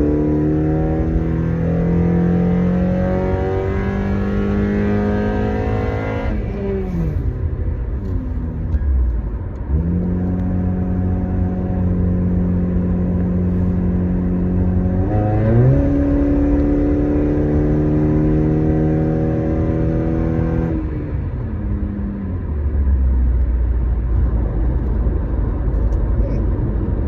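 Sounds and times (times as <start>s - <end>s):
car engine and exhaust accelerating: 0.0s - 27.0s.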